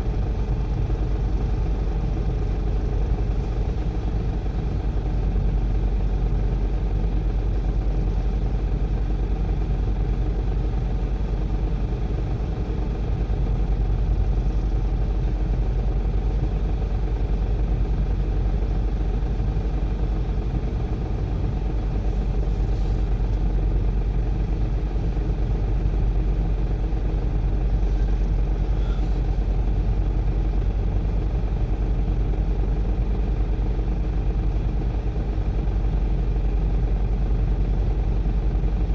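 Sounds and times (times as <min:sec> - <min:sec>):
heavy diesel engine rumbling: 0:00.0 - 0:38.9.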